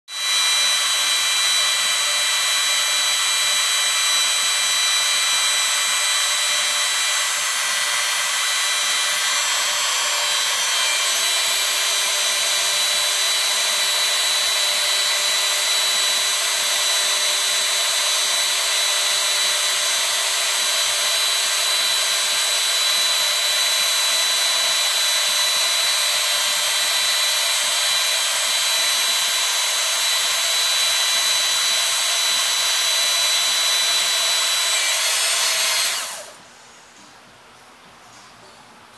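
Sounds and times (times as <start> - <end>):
hydraulic pump running: 0.1 - 36.4.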